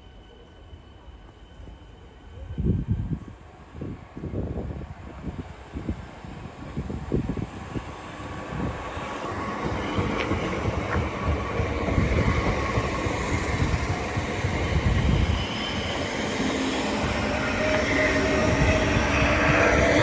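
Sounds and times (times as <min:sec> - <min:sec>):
electric train rumble: 0:00.0 - 0:20.0.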